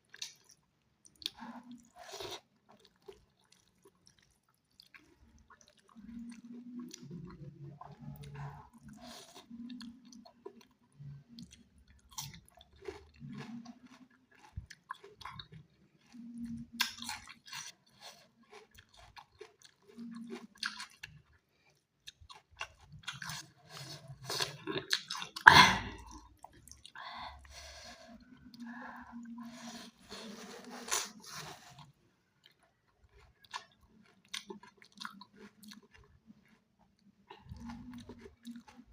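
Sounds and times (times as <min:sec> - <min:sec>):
chewing with wet smacks: 0:00.0 - 0:27.2, 0:28.1 - 0:38.9.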